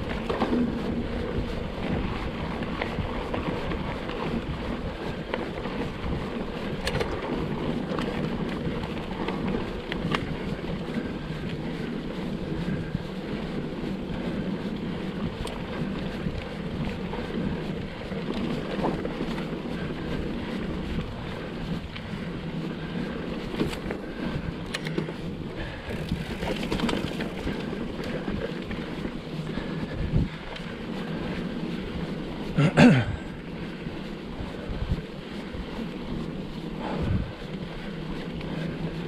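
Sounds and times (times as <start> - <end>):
bike tyres rolling on trail: 0.0 - 39.0
wind buffeting microphone: 0.0 - 39.0.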